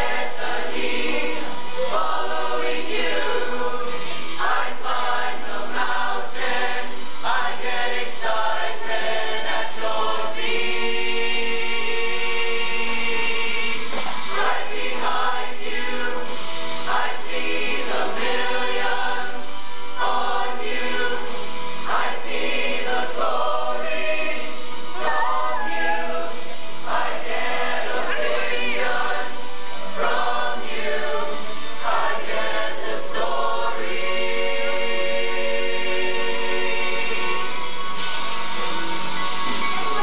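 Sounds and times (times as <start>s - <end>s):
teenage choir singing: 0.0s - 40.0s.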